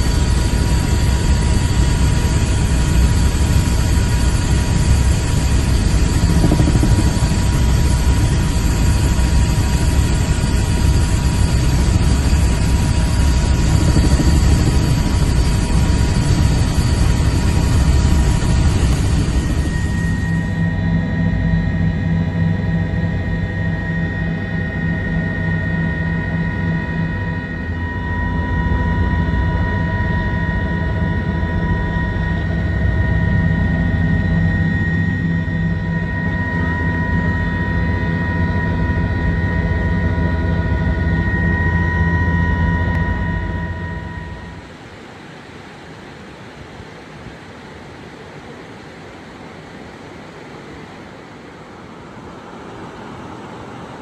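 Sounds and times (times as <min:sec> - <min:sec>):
high-pitched whine: 0:00.0 - 0:45.9
helicopter drone: 0:00.0 - 0:54.0.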